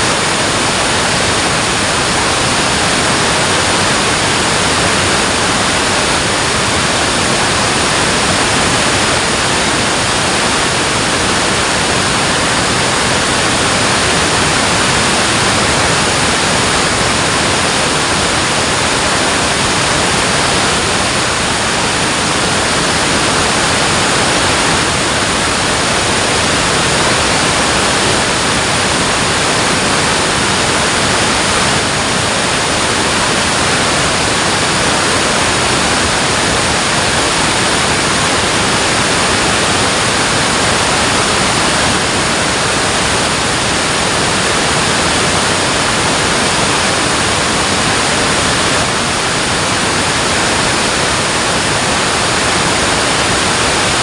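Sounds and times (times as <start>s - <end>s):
water rushing at a dam: 0.0s - 54.0s.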